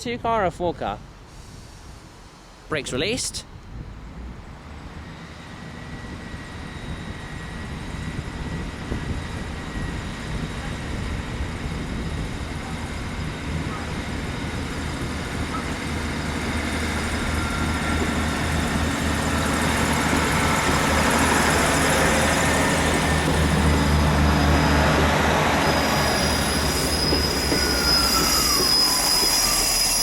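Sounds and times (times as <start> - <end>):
diesel train engine hum: 1.0 - 30.0
high wheel squeal on rails: 5.0 - 30.0.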